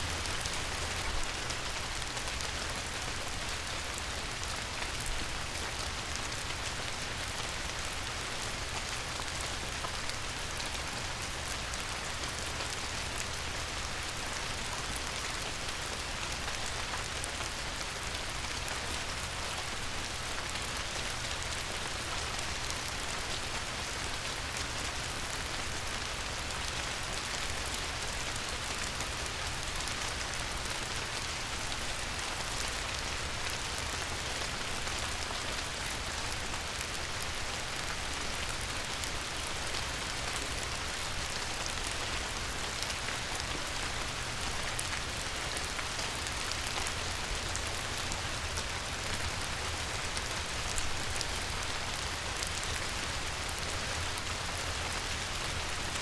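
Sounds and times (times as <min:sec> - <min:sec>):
light rain on a river: 0:00.0 - 0:56.0.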